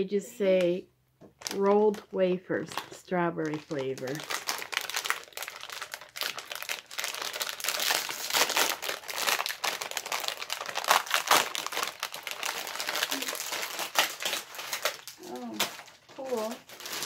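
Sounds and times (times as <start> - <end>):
plastic snack bag crackling: 1.4 - 17.0.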